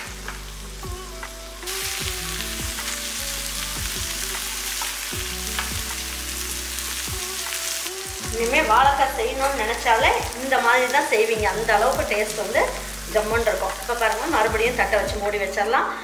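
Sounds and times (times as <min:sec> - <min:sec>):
banana slices sizzling in pan: 0:00.0 - 0:16.0.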